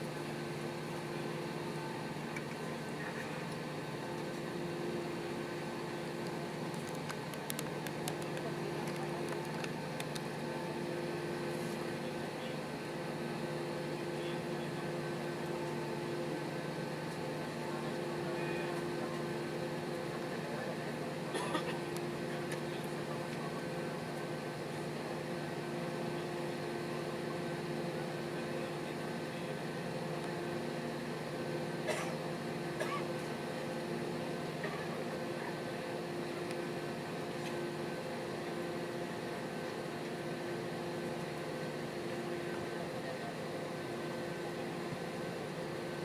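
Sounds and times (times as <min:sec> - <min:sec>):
airplane cabin hum: 0:00.0 - 0:46.0.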